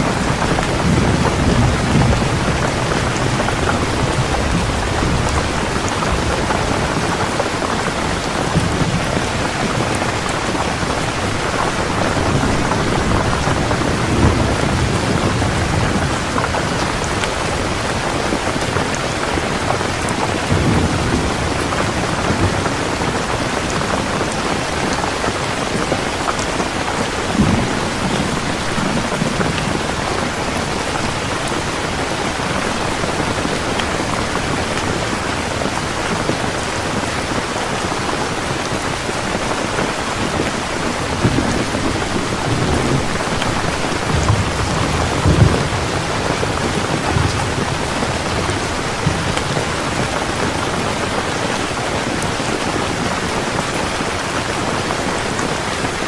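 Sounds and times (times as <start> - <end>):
low rolls of thunder: 0.0 - 35.3, 40.3 - 51.3
heavy rain: 0.0 - 56.0.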